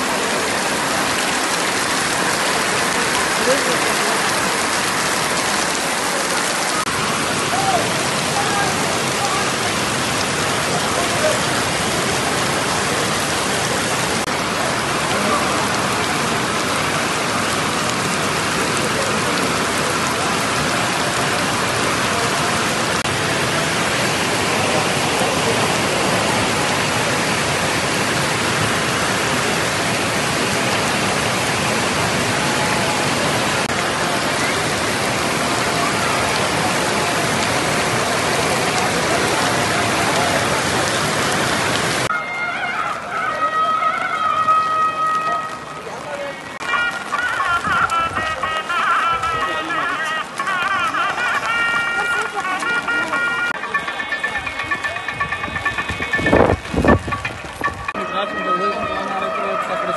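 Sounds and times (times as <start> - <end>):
heavy rain on standing water: 0.0 - 59.9.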